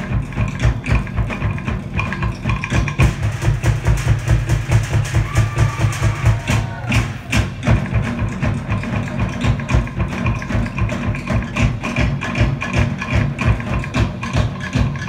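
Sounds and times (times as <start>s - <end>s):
deep bass drum: 0.0s - 15.0s
wooden log drum strikes: 0.0s - 15.0s.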